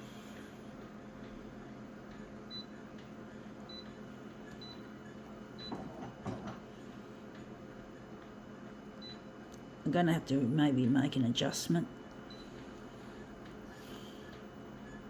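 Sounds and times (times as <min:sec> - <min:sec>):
photocopier humming: 0:00.0 - 0:15.0.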